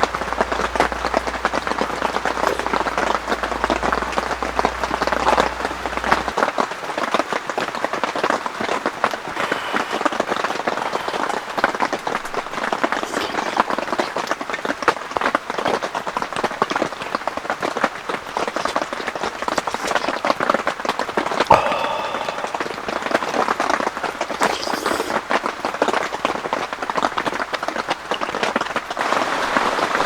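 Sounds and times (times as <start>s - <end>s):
heavy rain on fabric shelter: 0.0s - 20.8s, 24.4s - 30.0s.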